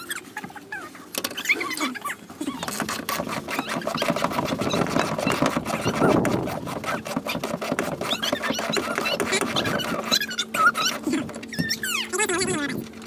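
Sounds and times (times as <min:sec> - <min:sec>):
squeaks: 0:00.0 - 0:13.0.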